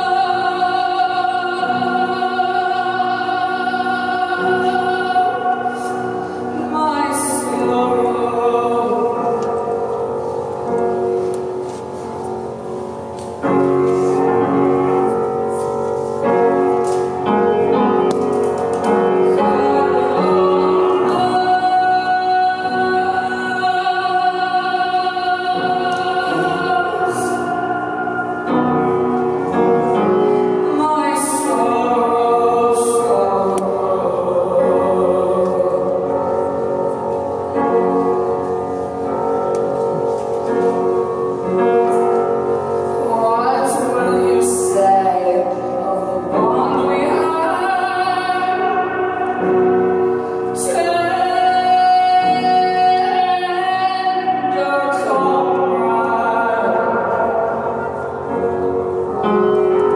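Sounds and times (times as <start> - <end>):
woman singing into a microphone: 0.0 - 10.0, 14.2 - 38.2, 41.4 - 59.9
piano accompaniment: 0.0 - 59.9.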